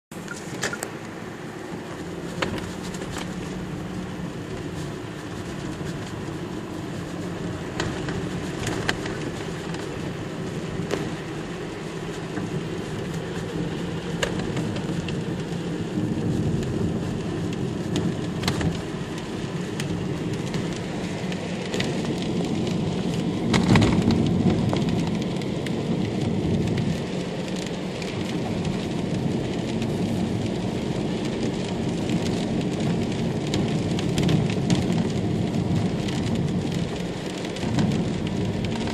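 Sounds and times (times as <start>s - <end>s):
road and engine noise: 0.1s - 38.9s.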